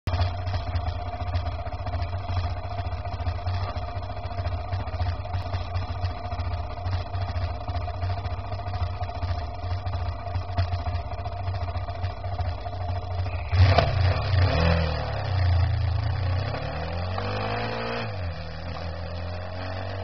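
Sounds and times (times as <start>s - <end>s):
vehicle engine idling: 0.1s - 20.0s.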